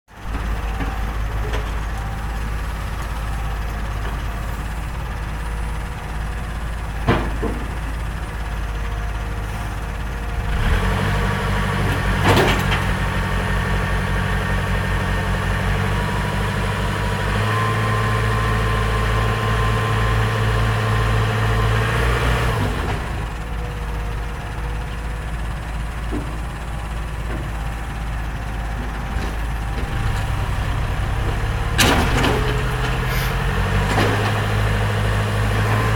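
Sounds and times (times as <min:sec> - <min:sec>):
heavy diesel machinery engine: 0:00.1 - 0:35.9.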